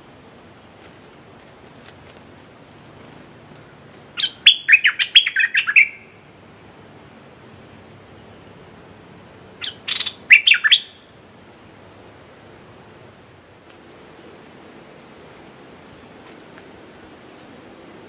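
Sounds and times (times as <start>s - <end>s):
songbird chirpy song: 0.0s - 18.0s.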